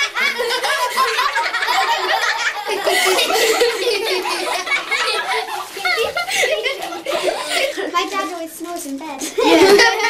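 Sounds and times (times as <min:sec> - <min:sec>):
children laughing and giggling: 0:00.0 - 0:10.0.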